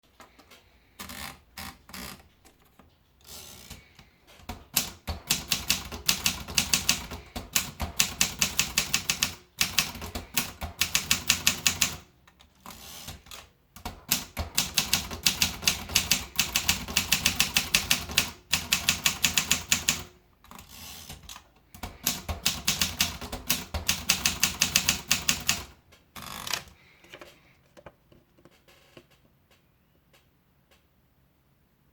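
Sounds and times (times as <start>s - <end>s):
manual typewriter typing: 0.4s - 27.5s.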